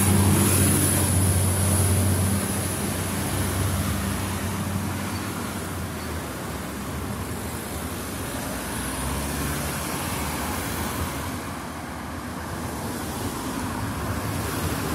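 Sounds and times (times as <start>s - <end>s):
cars driving past: 0.0s - 14.9s.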